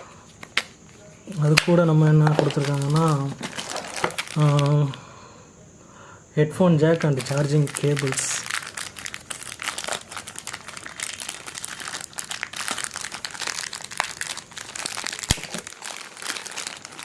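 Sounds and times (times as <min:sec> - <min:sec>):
packaging crinkling and rustling: 0:00.0 - 0:05.0, 0:06.9 - 0:17.0.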